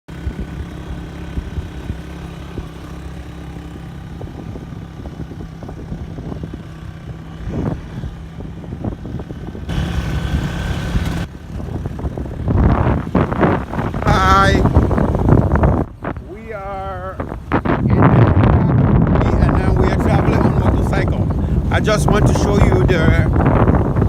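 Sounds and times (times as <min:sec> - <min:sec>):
motorcycle engine running: 0:00.1 - 0:24.0
road and wind rumble: 0:00.1 - 0:24.0.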